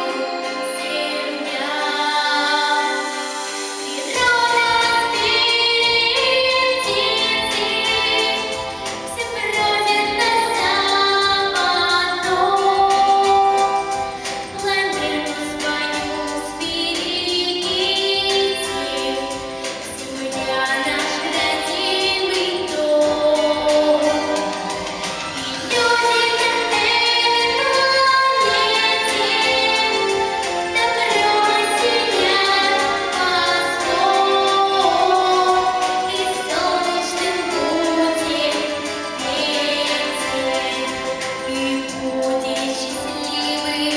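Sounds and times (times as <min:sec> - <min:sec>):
girl singing: 0:00.0 - 0:24.5, 0:25.6 - 0:43.9
musical accompaniment: 0:00.0 - 0:43.9.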